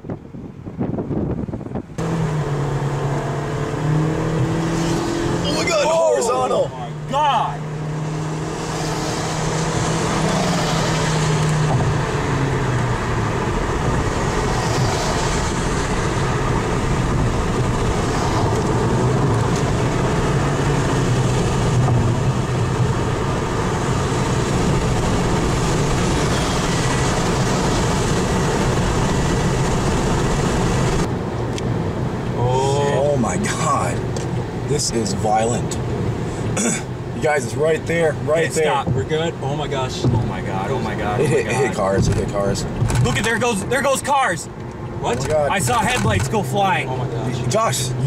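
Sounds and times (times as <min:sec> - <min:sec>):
engine and tyres drone: 0:00.0 - 0:43.7
wind and road noise in car: 0:00.0 - 0:48.0.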